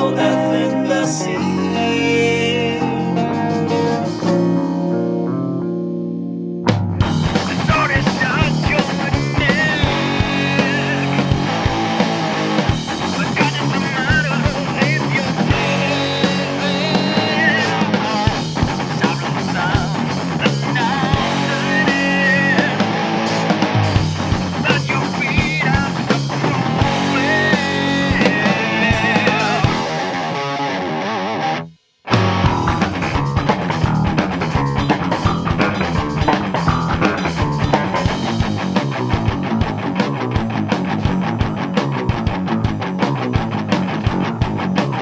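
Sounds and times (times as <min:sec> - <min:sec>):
drums: 0:00.0 - 0:05.1, 0:06.6 - 0:45.0
bass guitar: 0:00.0 - 0:45.0
electric guitar lead with bent notes: 0:00.0 - 0:45.0
rock band playing: 0:00.0 - 0:45.0.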